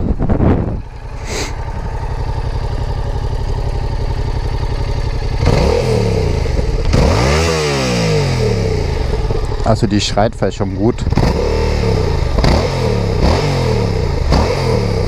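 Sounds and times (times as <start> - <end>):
motorcycle engine idling: 0.0 - 15.0
motorcycle engine revving: 0.0 - 15.0.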